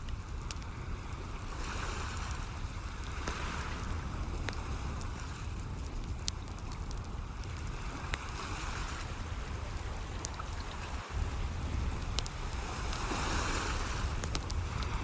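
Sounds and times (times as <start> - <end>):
sea waves: 0.0 - 15.0
wood fire crackling and popping: 0.0 - 15.0.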